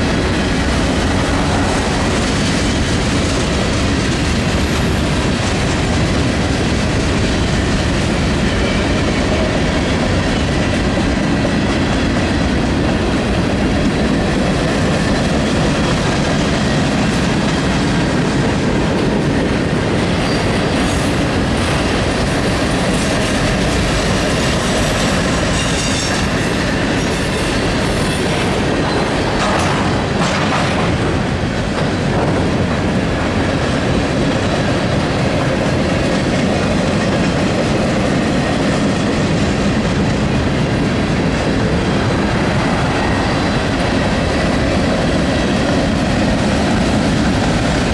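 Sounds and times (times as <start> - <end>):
clickety-clack over rail joints: 0.0 - 47.9
train wheels rumbling on rails: 0.0 - 47.9.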